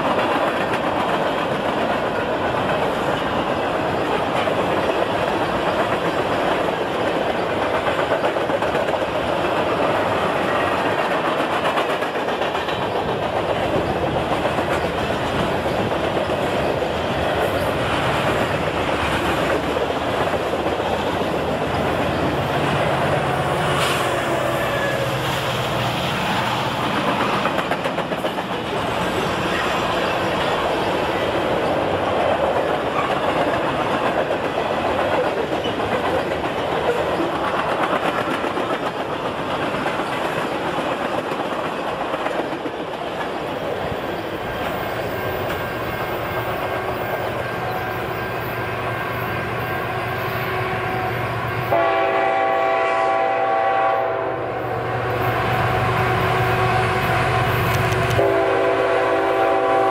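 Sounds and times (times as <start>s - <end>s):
steel wheels clattering on rails: 0.0s - 51.8s
freight train rolling past: 0.0s - 59.9s.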